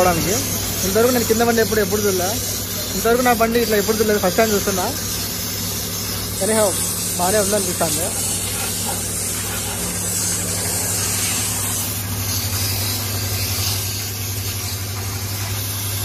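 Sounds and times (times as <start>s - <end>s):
spray gun hissing: 0.0s - 16.0s.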